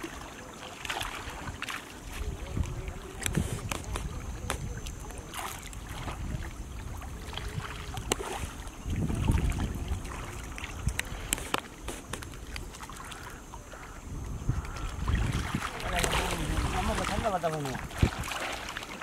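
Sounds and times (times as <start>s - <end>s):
water sloshing and splashing: 0.0s - 19.0s
wind rumble on microphone: 1.4s - 18.5s.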